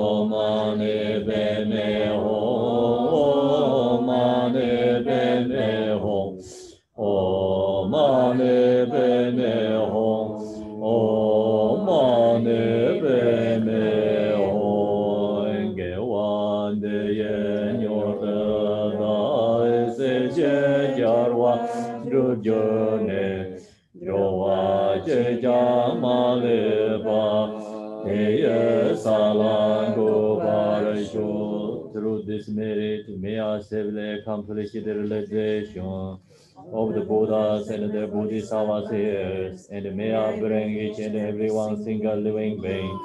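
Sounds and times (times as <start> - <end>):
monks chanting: 0.0 - 43.0.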